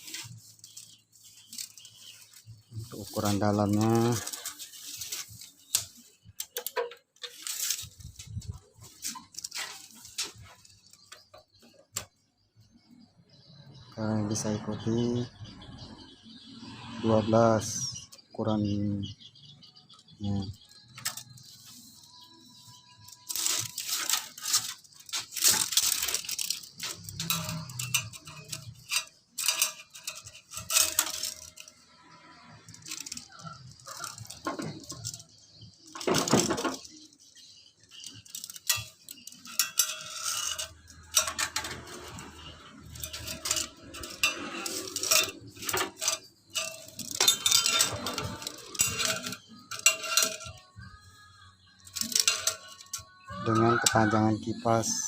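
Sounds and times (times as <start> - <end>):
metal objects clinking and rattling: 0.0 - 12.3, 19.2 - 55.0.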